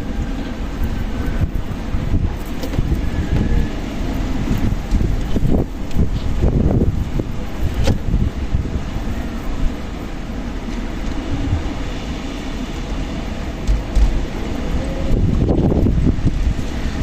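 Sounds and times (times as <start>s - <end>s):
strong wind gusting: 0.0s - 17.0s
wind buffeting microphone: 0.0s - 17.0s.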